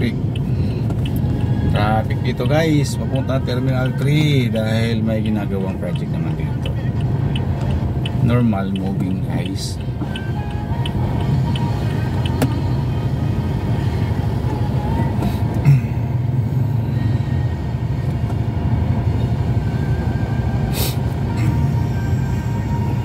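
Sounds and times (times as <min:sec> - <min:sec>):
traffic rumble inside car: 0:00.0 - 0:23.0.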